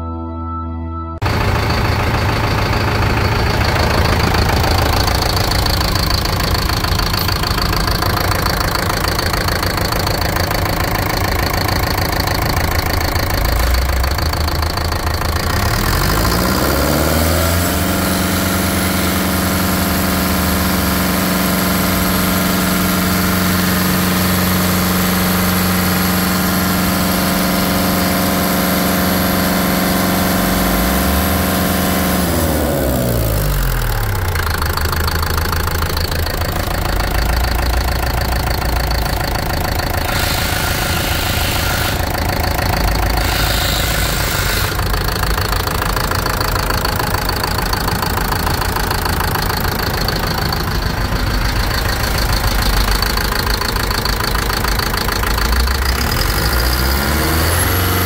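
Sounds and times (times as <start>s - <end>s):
diesel engine running: 1.2s - 58.0s.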